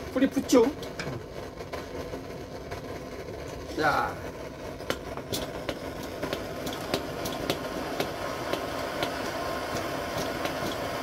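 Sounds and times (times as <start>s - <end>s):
stove burner rushing: 0.0s - 11.0s.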